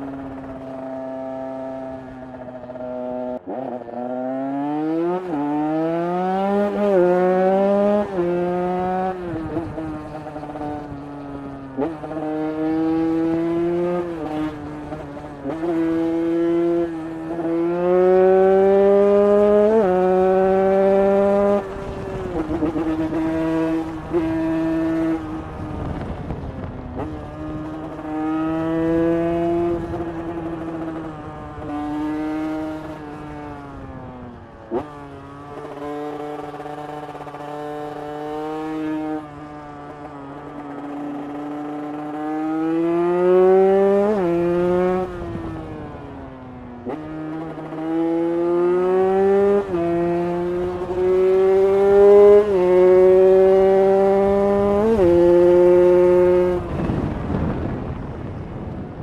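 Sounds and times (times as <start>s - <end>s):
two-stroke motorcycle engine revving: 0.0s - 58.3s.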